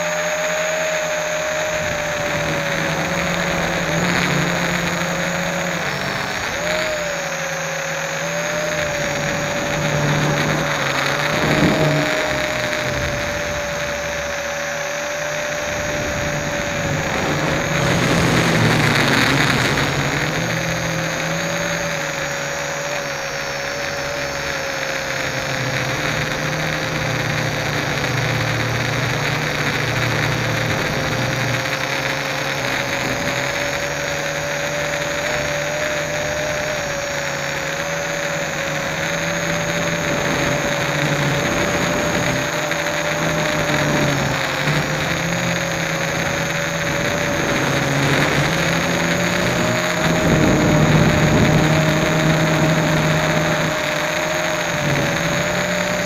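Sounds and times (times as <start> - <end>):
broad rushing noise: 0.0 - 56.0
drone motors buzzing whine: 0.0 - 56.0.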